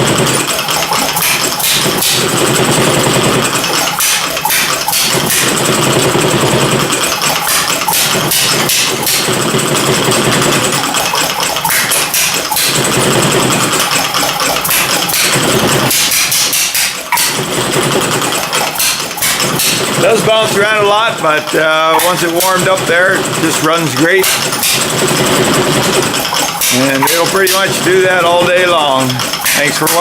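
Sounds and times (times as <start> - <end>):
stationary engine clattering and firing: 0.0 - 30.0.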